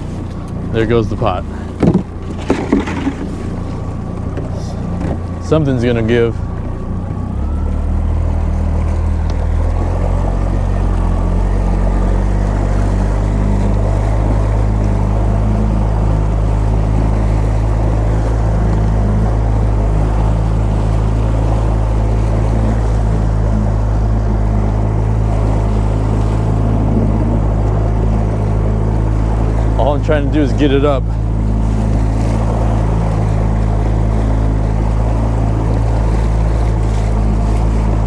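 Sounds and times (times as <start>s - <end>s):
outboard motor straining: 0.0s - 38.0s
water churning: 0.0s - 38.0s.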